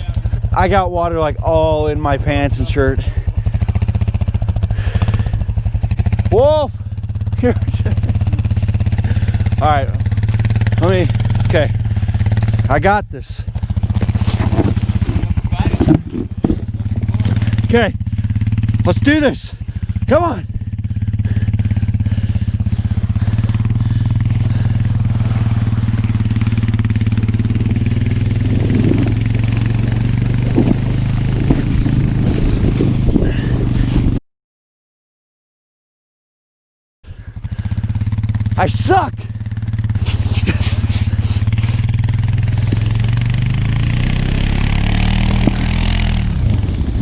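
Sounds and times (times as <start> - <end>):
atv engine running: 0.0 - 34.2, 37.1 - 47.0.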